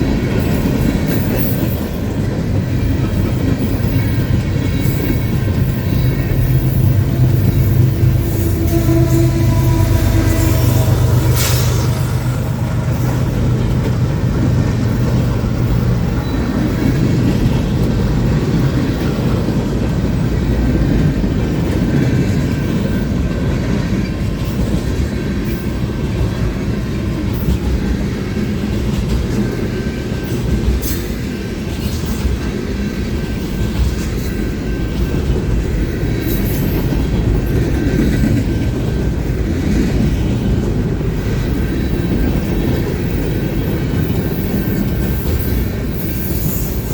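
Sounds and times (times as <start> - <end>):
steel wheels rumbling on rail: 0.0 - 46.9.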